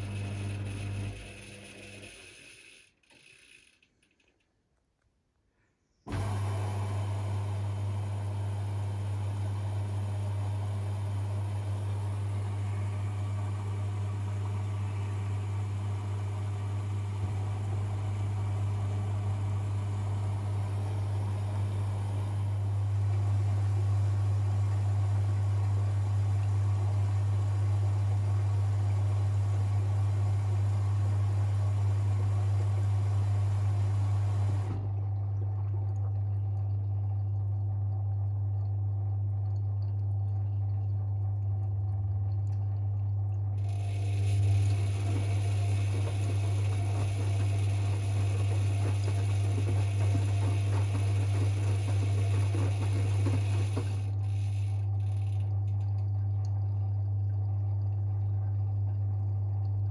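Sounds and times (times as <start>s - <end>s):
washing machine running hum: 0.0s - 3.6s, 6.1s - 59.9s.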